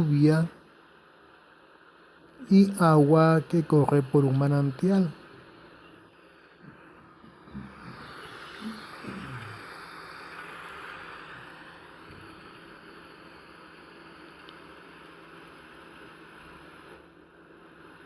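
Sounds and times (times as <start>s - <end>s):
rain hissing: 0.0s - 18.0s.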